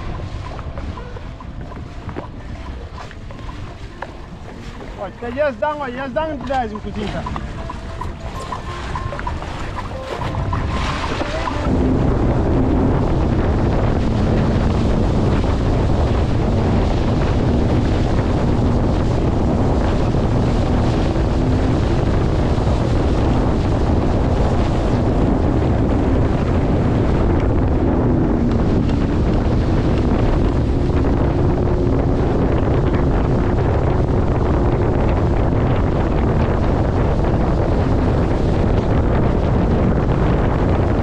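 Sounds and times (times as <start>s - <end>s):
jet ski engine drone: 0.0s - 41.0s
wind buffeting microphone: 0.0s - 41.0s.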